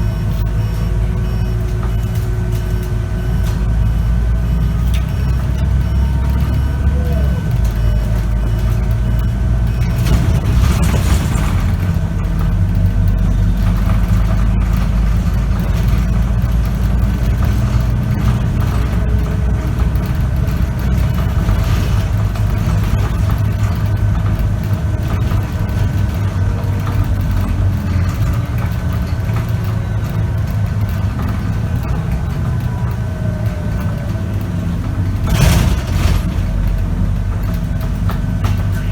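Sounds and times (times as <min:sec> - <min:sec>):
bus diesel engine drone: 0:00.0 - 0:38.9
faint gearbox whine: 0:00.0 - 0:38.9.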